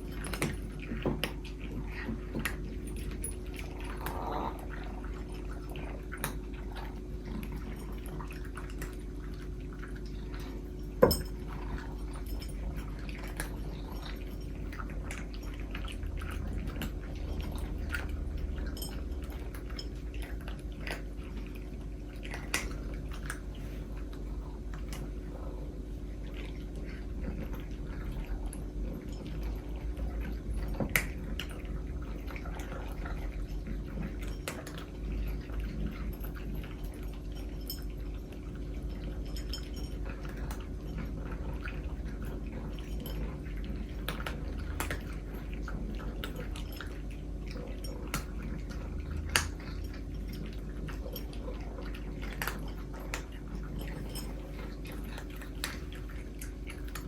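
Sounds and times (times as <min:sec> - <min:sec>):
cats chewing: 0:00.0 - 0:57.0
steady low hum: 0:00.0 - 0:57.0.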